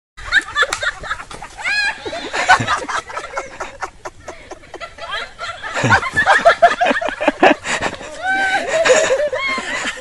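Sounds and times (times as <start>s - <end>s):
hearty laughter: 0.2s - 10.0s.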